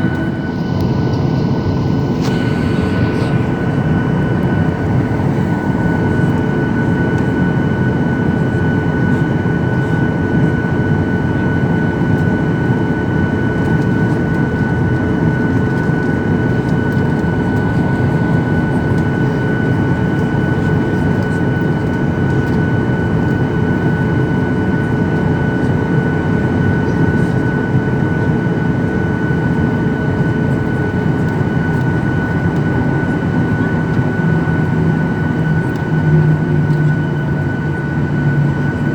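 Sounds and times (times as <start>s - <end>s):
high fan whine: 0.0s - 38.9s
jet engines in aircraft cabin: 0.0s - 38.9s.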